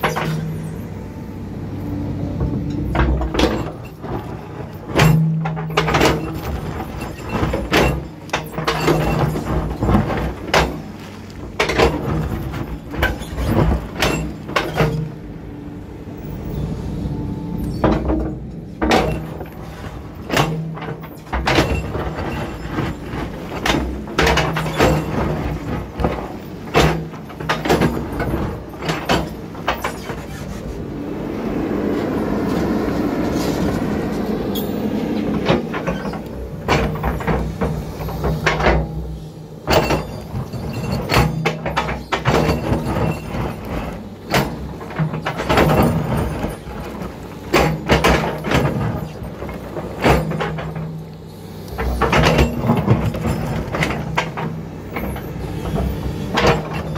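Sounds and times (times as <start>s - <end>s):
bulldozer diesel engine under load: 0.0s - 56.9s
steel tracks clanking on rock: 2.3s - 15.5s, 17.5s - 30.9s, 32.4s - 56.9s.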